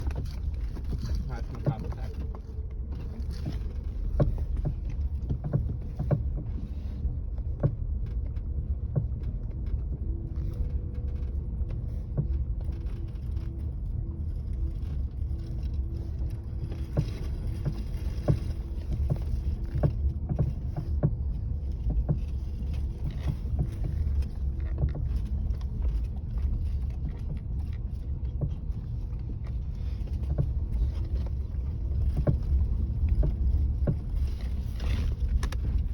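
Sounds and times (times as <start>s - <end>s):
suspension link knocking: 0.0s - 10.5s, 16.0s - 35.9s
low rumble of moving car: 0.0s - 35.9s.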